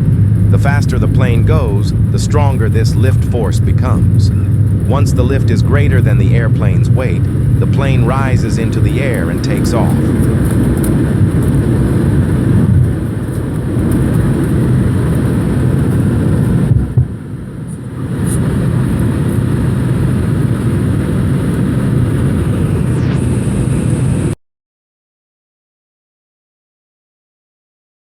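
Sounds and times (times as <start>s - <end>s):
engine rumbling: 0.0s - 24.0s
road or wind noise: 0.0s - 24.4s.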